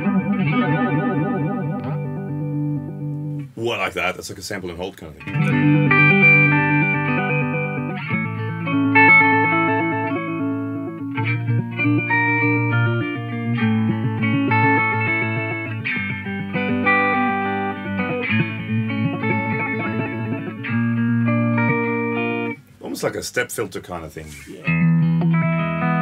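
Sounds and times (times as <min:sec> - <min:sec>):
electric guitar with stepped delay: 0:00.0 - 0:03.5, 0:05.2 - 0:22.6, 0:24.6 - 0:26.0.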